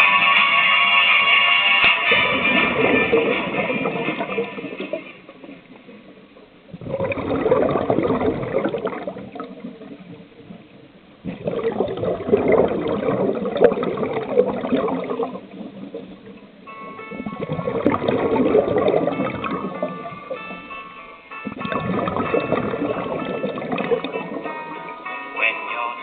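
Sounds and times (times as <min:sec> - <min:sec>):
underwater bubbles from regulator: 0:02.1 - 0:20.7, 0:21.5 - 0:25.0.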